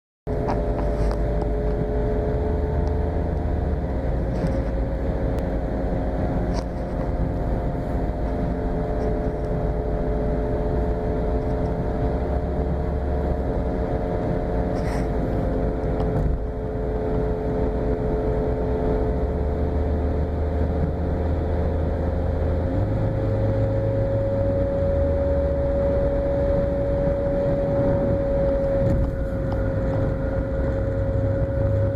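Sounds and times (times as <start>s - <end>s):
car low running rumble: 0.3s - 31.9s
car whining noise: 0.3s - 31.9s.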